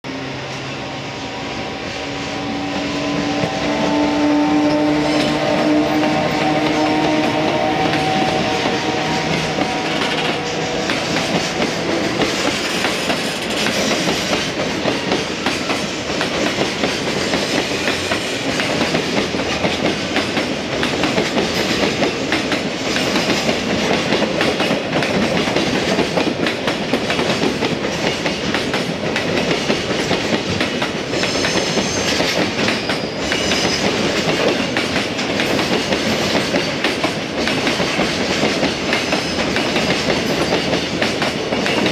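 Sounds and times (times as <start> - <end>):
train wheels clattering over rail joints: 5.1 - 41.9.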